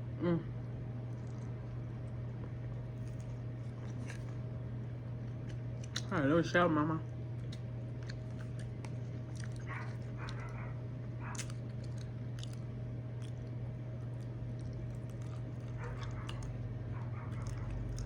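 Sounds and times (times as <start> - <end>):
steady low hum: 0.0 - 18.0
chewing and lip smacking: 1.0 - 6.2, 7.1 - 18.0.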